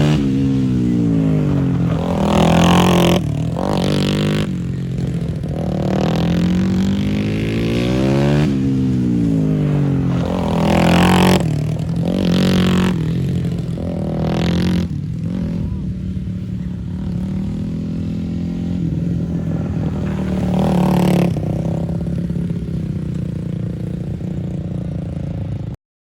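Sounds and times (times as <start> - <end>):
racing motorcycles revving past: 0.0 - 25.8.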